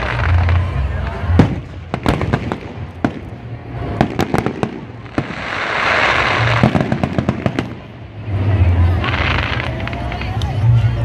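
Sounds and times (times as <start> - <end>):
fireworks bursting: 0.0 - 10.4.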